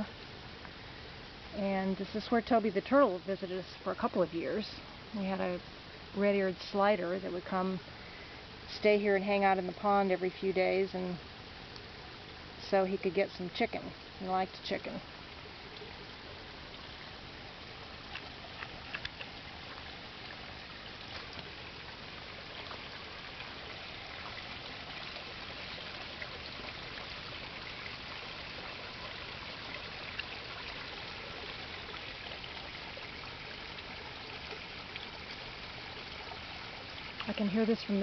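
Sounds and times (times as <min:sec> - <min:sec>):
creek water trickling: 0:00.0 - 0:38.0.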